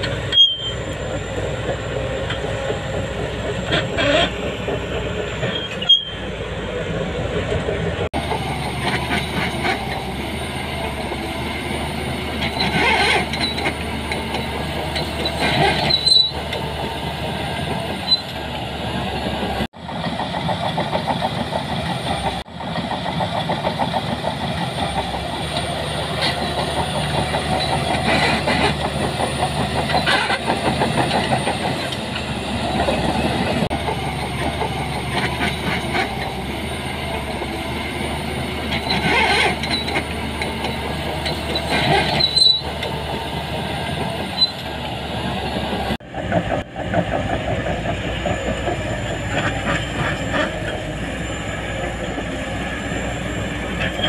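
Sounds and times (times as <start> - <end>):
bulldozer diesel engine under load: 0.0 - 54.0
steel tracks clattering: 0.0 - 54.0.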